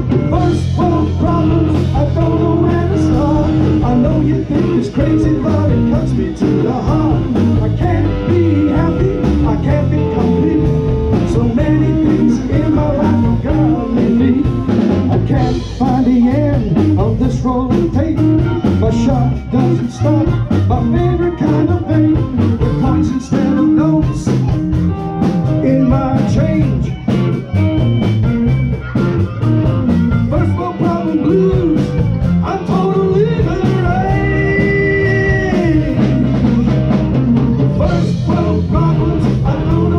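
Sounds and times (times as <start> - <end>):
person singing lead vocal: 0.0 - 27.3, 30.2 - 39.9
live blues band: 0.0 - 39.9.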